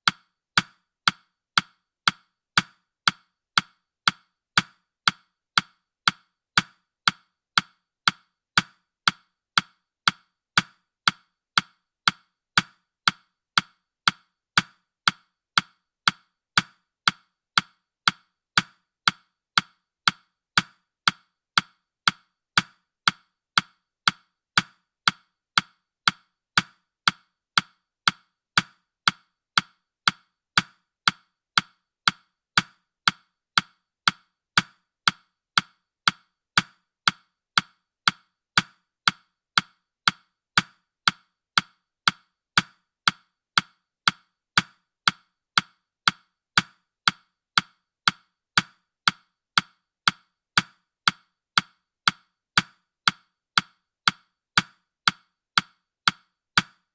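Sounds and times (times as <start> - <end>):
woody clock ticks: 0.0 - 56.9.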